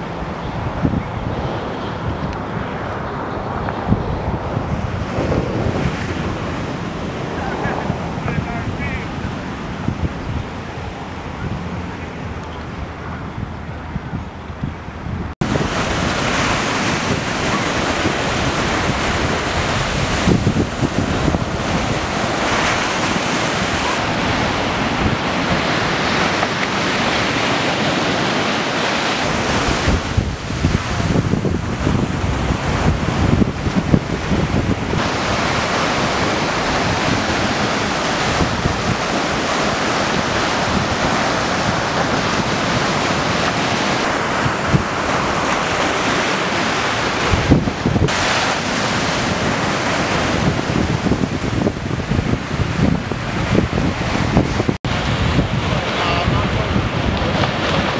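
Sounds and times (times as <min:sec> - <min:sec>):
ocean surf washing onto beach: 0:00.0 - 0:57.9
wind buffeting microphone: 0:00.0 - 0:57.9.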